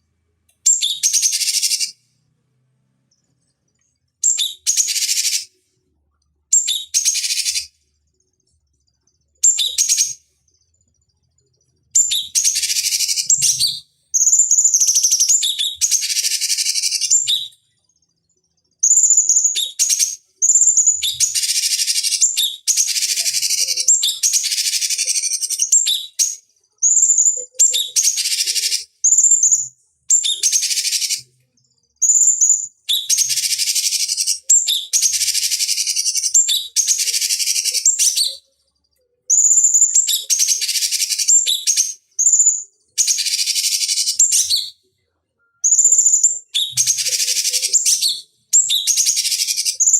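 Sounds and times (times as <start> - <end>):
bird singing high-pitched song: 0.6 - 2.1, 3.1 - 49.9.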